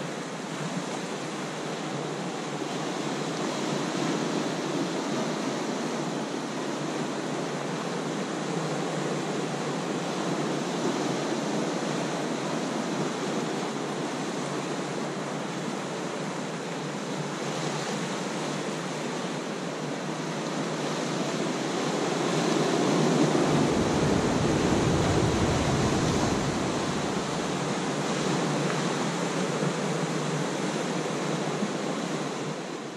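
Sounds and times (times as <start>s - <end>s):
surf washing over rocks: 0.0s - 32.9s.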